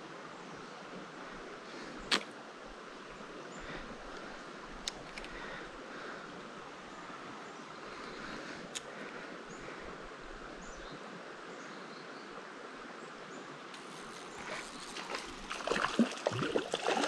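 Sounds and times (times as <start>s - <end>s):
creek flowing: 0.0s - 17.0s.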